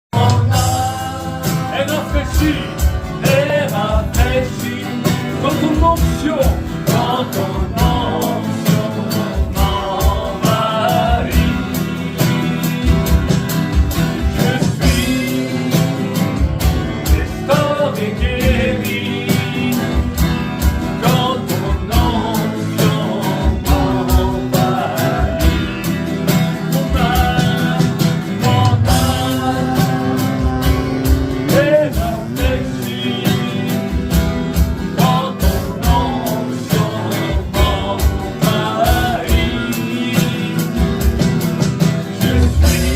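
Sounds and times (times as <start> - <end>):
band with a steady beat: 0.0 - 42.9
person singing: 0.1 - 42.9.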